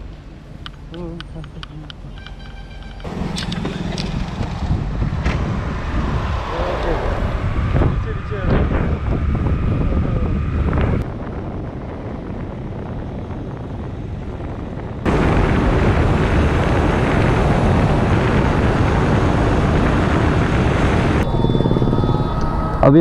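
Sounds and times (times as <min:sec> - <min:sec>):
vehicle road and engine noise: 0:00.0 - 0:23.0
wind rushing over microphone: 0:03.0 - 0:23.0.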